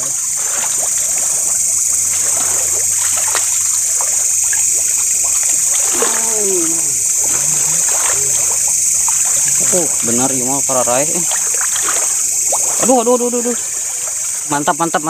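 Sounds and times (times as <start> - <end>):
night insect chorus: 0.0 - 15.0
small clicks and splashes: 0.0 - 15.0
trickling water: 0.0 - 15.0.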